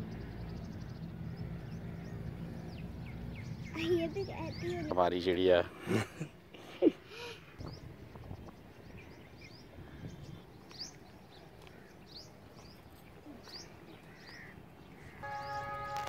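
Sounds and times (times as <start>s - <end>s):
small birds chirping: 0.0s - 5.5s, 7.1s - 16.0s.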